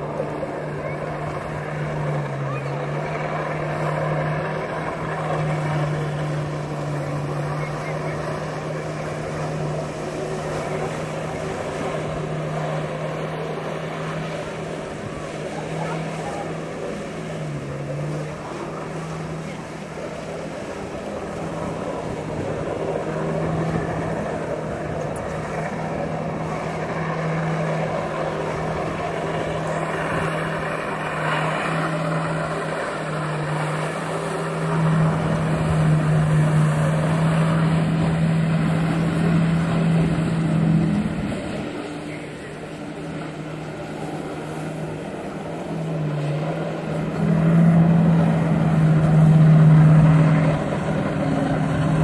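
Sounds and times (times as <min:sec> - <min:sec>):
water jet spray rushing: 0:00.0 - 0:52.0
watercraft engine droning: 0:00.0 - 0:52.0.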